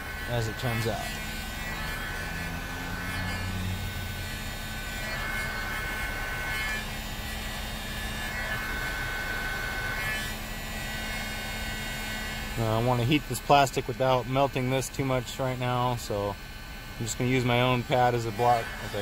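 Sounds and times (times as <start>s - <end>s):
heat gun motor whine: 0.0s - 19.0s.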